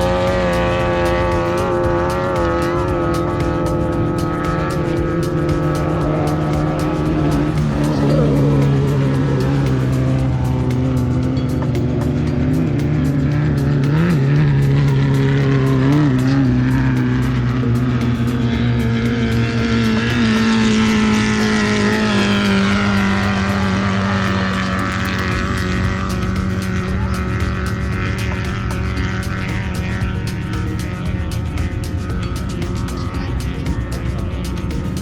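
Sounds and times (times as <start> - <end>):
race vehicle engine revving high: 0.0 - 35.0.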